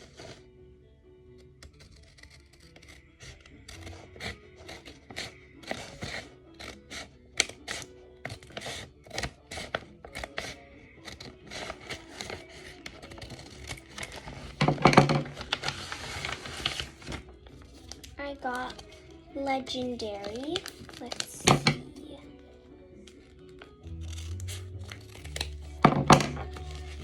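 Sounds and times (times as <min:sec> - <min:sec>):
paper rustling: 0:00.0 - 0:00.4, 0:01.6 - 0:22.1, 0:23.0 - 0:27.0
background music: 0:00.0 - 0:27.0
scissors snipping paper: 0:01.4 - 0:22.0, 0:23.0 - 0:27.0.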